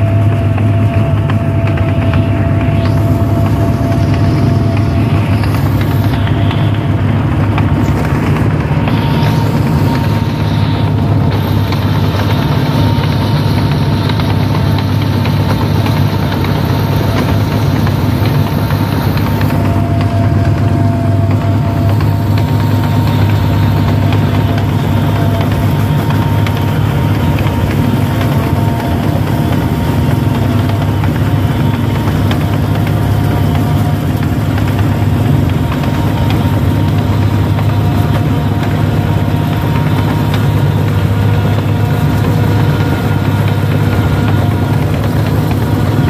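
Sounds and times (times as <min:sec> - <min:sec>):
diesel engine drone: 0:00.0 - 0:46.0
faint whining tones: 0:00.0 - 0:46.0.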